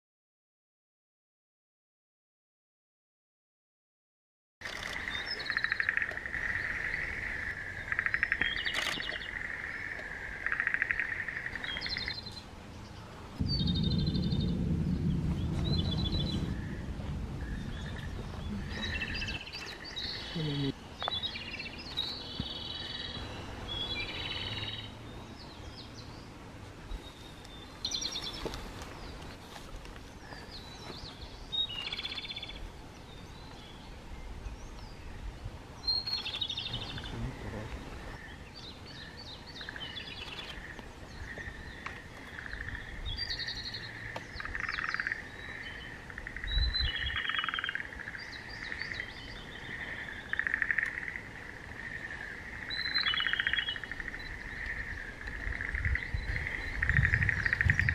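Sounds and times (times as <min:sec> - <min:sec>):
bird singing trilled phrases: 0:04.6 - 0:16.8, 0:17.4 - 0:28.4, 0:30.4 - 0:35.2, 0:35.8 - 0:51.2, 0:52.0 - 0:57.9.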